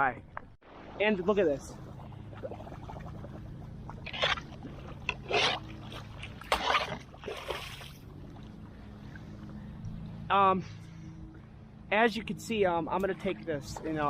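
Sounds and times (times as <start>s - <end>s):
low hum: 0.0s - 14.0s
water splashes: 0.2s - 10.3s, 12.4s - 14.0s.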